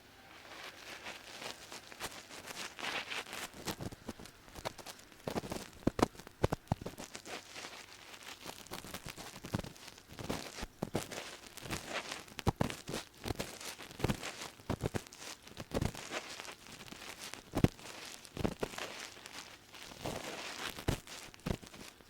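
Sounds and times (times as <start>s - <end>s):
ear pick scratching in ear: 0.4s - 22.0s.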